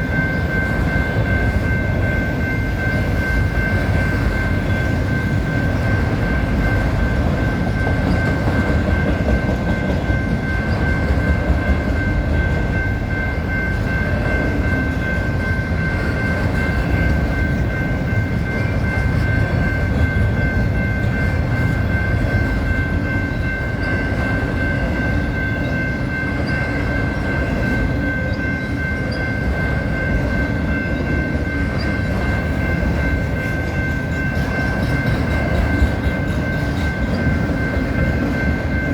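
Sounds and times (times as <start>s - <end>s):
freight train rumble and wheel rattle: 0.0s - 38.9s
high ringing tone: 0.0s - 38.9s.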